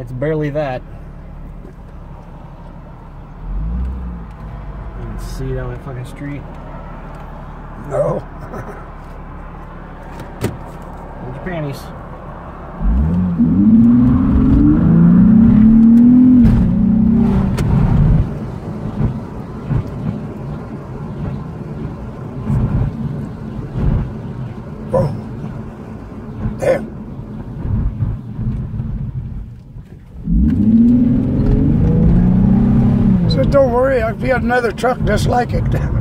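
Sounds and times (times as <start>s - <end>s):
road noise: 0.0s - 36.0s
car engine accelerating: 0.9s - 36.0s.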